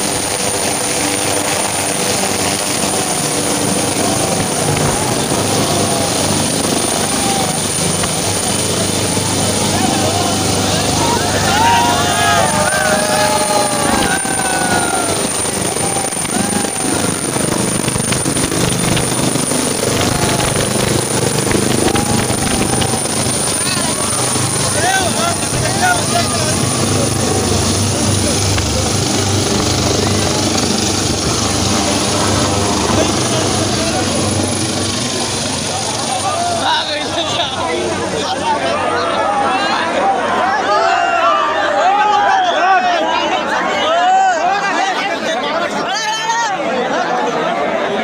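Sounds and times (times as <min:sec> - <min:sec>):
helicopter rotor and turbine: 0:00.0 - 0:40.5
crowd voices: 0:00.0 - 0:48.0.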